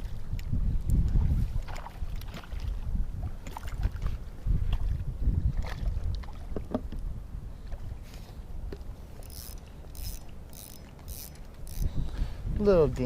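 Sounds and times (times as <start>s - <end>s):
wind rumble on microphone: 0.0s - 9.1s, 11.1s - 13.0s.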